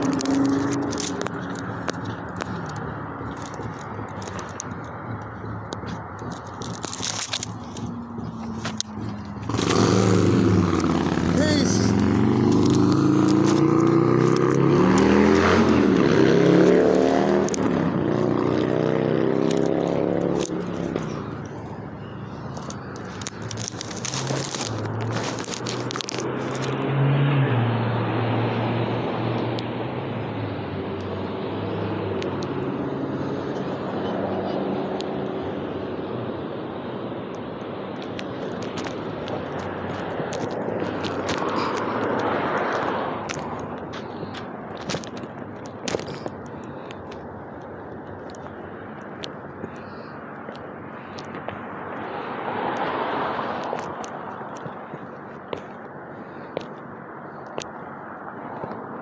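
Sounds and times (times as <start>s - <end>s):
vehicle engine: 0.0s - 59.0s.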